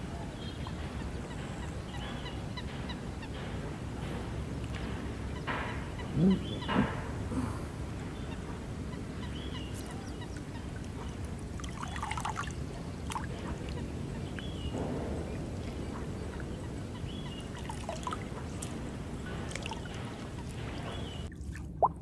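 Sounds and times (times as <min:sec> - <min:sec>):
birds chirping: 0:00.0 - 0:21.3
low bird calls: 0:00.0 - 0:21.3
low background noise: 0:00.0 - 0:22.0.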